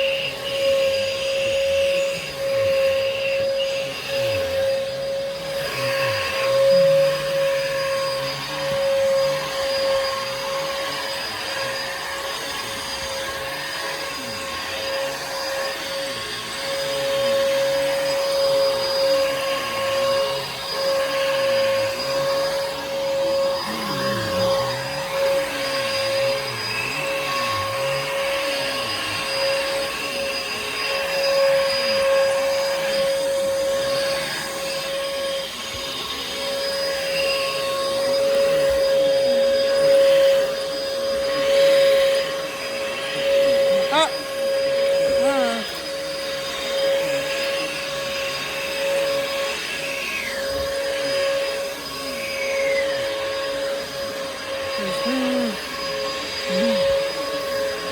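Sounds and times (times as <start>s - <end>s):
vacuum cleaner motor whine: 0.0s - 57.9s.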